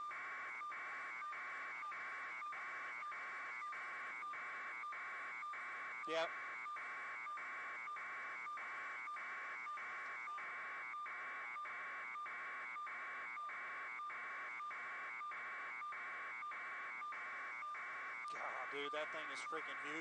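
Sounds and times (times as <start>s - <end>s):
constant high tone: 0.0s - 20.0s.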